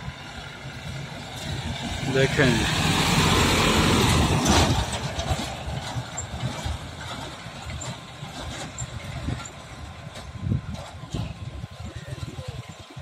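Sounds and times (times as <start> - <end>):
small truck passing by: 0.0 - 13.0.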